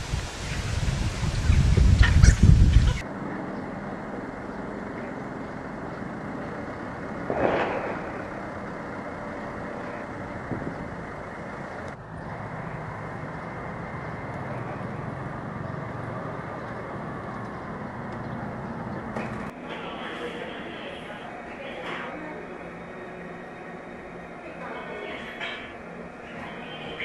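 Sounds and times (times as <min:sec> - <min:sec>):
street traffic noise: 0:00.0 - 0:27.0.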